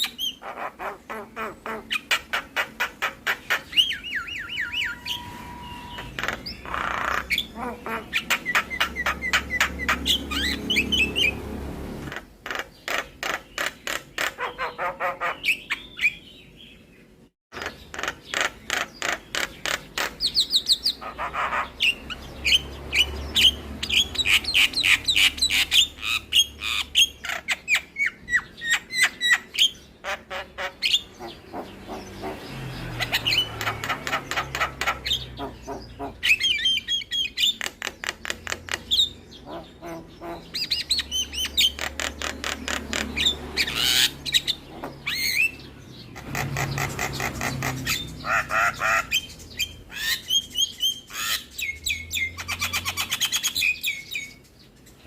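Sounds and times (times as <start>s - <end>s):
myna bird singing: 0.0s - 55.0s.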